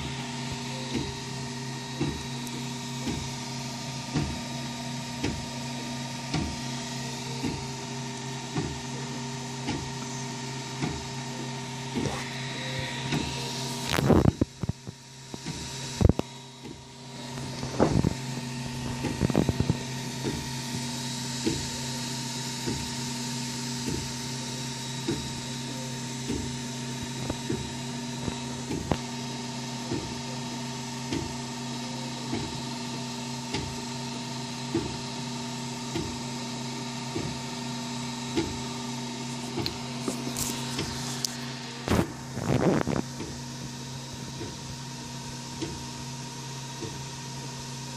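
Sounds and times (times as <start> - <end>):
printer fans and motors humming: 0.0 - 47.9.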